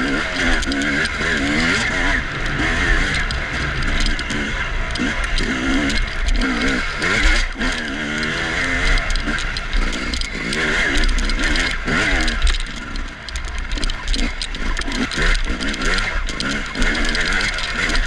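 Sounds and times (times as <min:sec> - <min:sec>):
dirt bike engine revving: 0:00.0 - 0:18.0
loose part rattling: 0:00.0 - 0:18.0.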